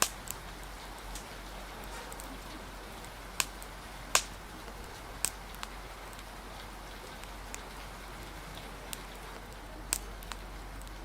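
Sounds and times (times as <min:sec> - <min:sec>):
rain and wind hissing: 0:00.0 - 0:11.0
wood fire popping: 0:00.0 - 0:11.0.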